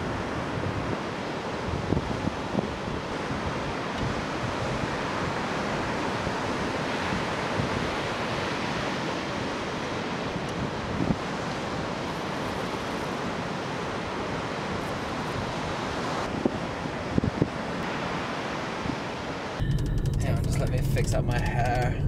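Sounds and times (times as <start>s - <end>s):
wind buffeting microphone: 0.0s - 17.9s
ocean surf breaking: 0.0s - 19.7s.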